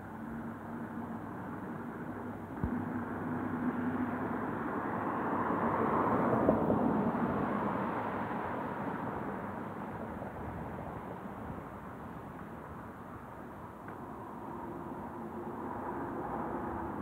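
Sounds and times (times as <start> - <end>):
background traffic: 0.0 - 17.0.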